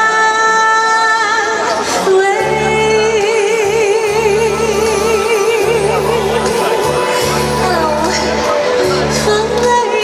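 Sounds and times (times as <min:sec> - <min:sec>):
woman singing: 0:00.0 - 0:10.0
backing track: 0:00.1 - 0:10.0.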